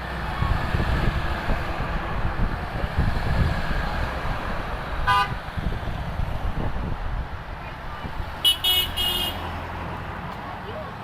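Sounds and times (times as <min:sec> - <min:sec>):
truck engines rumbling: 0:00.0 - 0:11.0.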